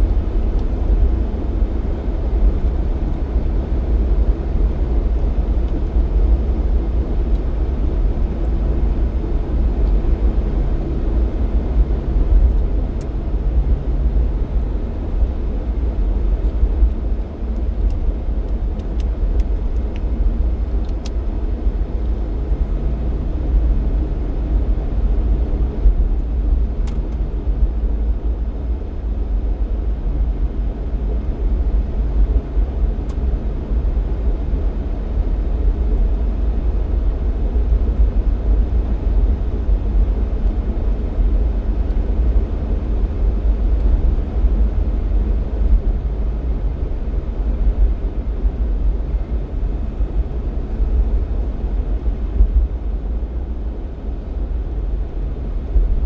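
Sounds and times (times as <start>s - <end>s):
engine and road noise rumble: 0.0s - 56.0s
faint engine hum: 0.0s - 56.0s.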